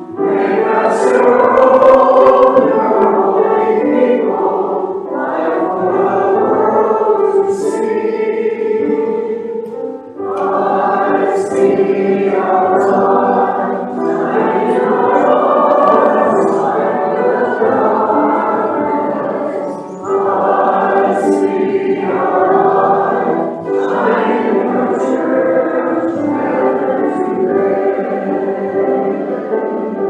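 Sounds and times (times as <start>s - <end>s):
group singing a hymn: 0.0s - 30.0s.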